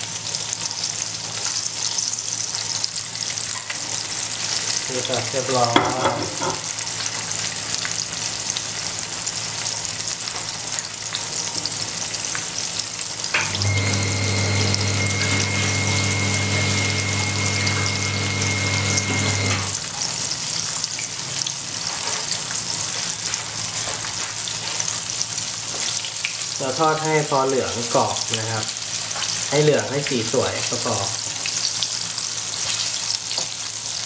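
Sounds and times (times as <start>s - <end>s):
tofu sizzling in oil: 0.0s - 5.7s, 6.4s - 34.0s.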